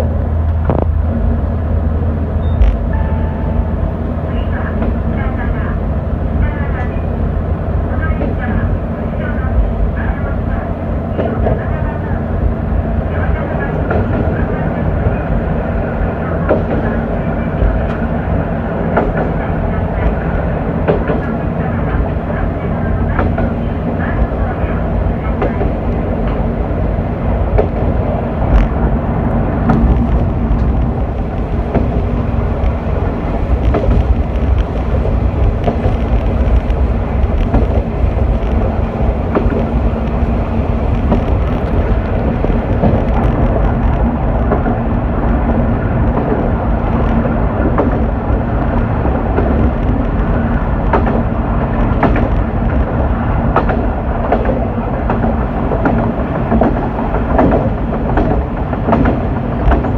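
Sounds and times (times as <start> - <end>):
railcar engine hum: 0.0 - 59.9
wheel and rail rumble: 0.0 - 59.9.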